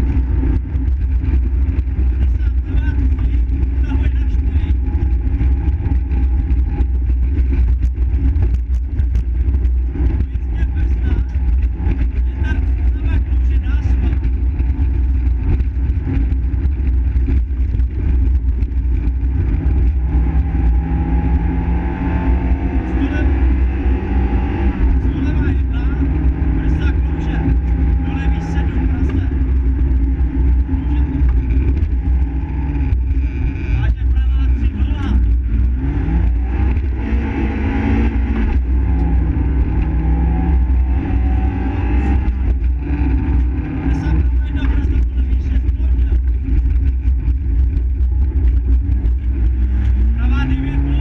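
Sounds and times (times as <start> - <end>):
car engine running hard: 0.0 - 51.0
road and suspension rumble: 0.0 - 51.0.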